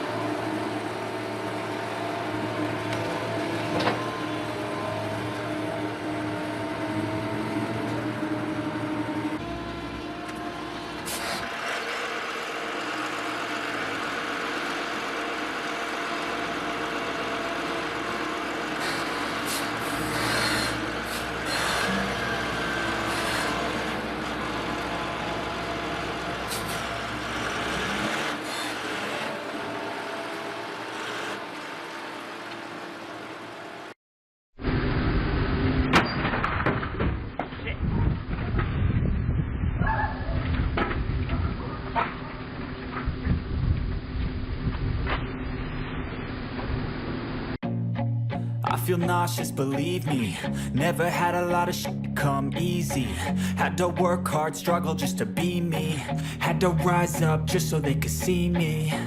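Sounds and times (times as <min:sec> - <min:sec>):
heavy engine running: 0:00.0 - 0:34.0, 0:34.6 - 0:47.6, 0:48.4 - 0:59.0.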